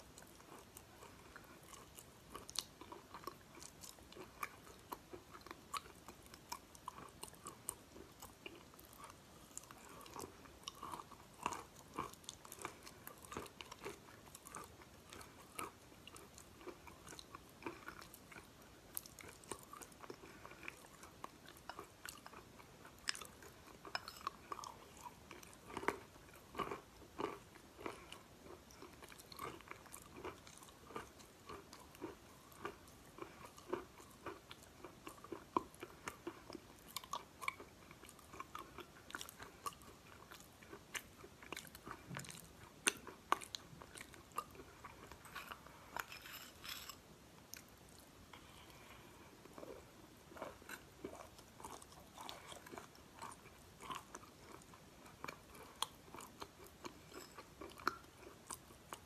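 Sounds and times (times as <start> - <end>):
chalk being chewed: 0.2 - 47.7.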